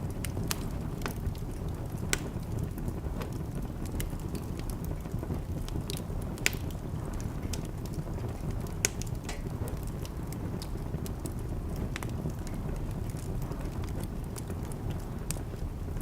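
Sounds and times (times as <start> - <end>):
sharp fire pops: 0.0 - 16.0
wood fire crackling: 0.0 - 16.0.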